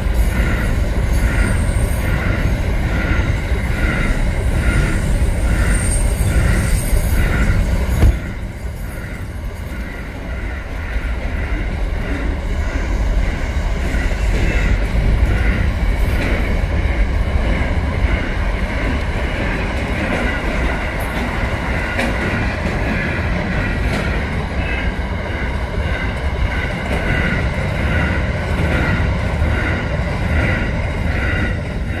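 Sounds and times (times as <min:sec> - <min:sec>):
freight train rumbling: 0:00.0 - 0:32.0.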